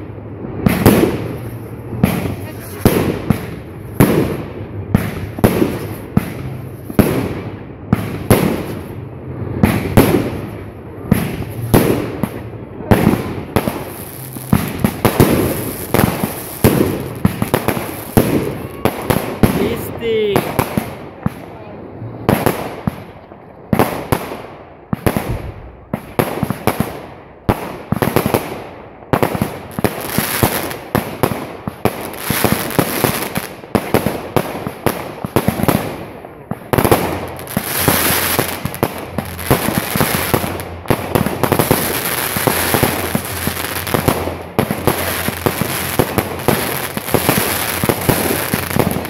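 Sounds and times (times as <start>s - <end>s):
fireworks bangs: 0.0s - 49.0s
fireworks crackling and popping: 0.0s - 49.0s.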